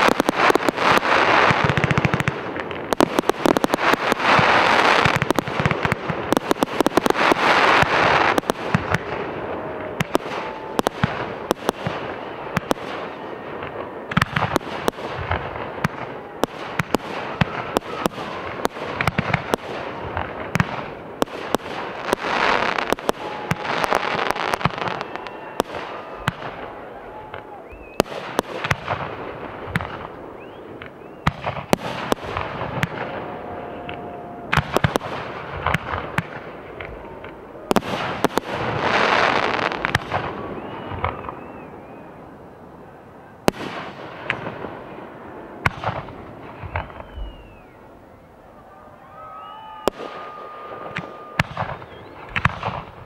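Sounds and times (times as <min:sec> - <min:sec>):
fireworks crackle: 0:00.0 - 0:42.3, 0:43.4 - 0:47.8, 0:49.1 - 0:53.0
fireworks bursts: 0:00.0 - 0:47.9, 0:49.2 - 0:53.0.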